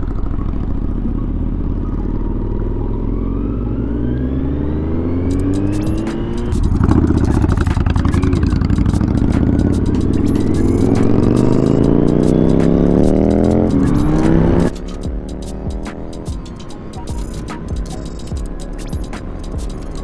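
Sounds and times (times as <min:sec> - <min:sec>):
motorcycle engine climbing: 0:00.0 - 0:20.0.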